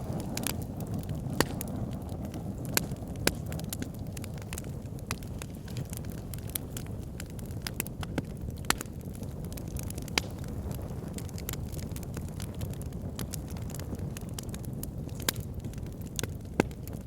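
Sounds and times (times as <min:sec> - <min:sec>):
fire crackles and pops: 0:00.0 - 0:17.0
low rush of flame: 0:00.0 - 0:17.0.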